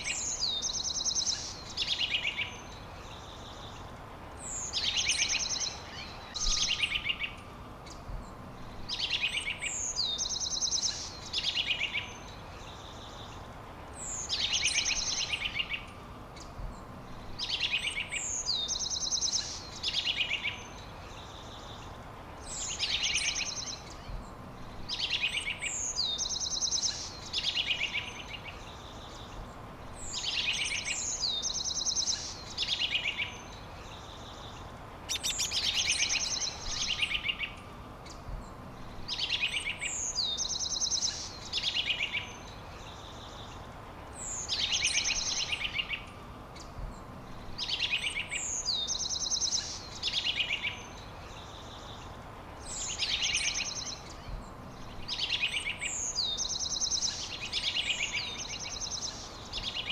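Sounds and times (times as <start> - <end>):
faint steady hiss: 0.0 - 59.9
songbird singing: 0.0 - 59.9.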